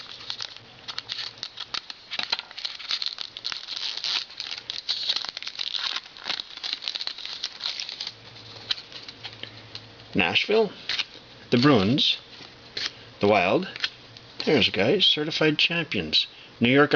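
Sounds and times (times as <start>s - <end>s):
wrapper crinkling and cards rustling: 0.0s - 15.4s.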